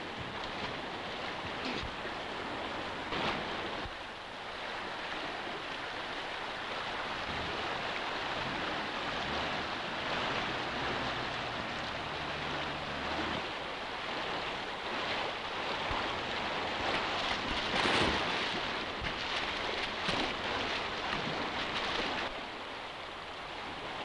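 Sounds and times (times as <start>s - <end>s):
water splash: 0.0s - 4.0s, 6.6s - 22.4s
stream rushing over rocks: 0.0s - 24.0s.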